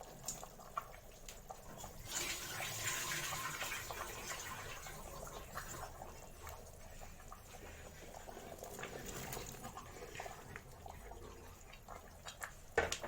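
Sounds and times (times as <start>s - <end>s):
pot simmering and bubbling: 0.0s - 13.0s.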